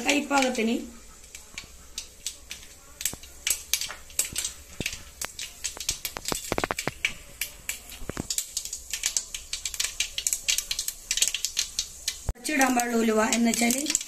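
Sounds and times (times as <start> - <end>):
mustard seeds popping in oil: 0.0 - 14.0.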